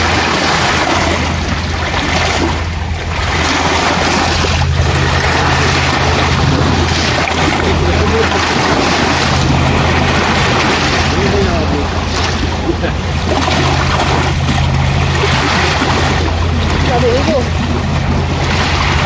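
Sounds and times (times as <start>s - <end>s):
lake waves washing ashore: 0.0s - 19.0s
wind on microphone: 0.0s - 19.0s.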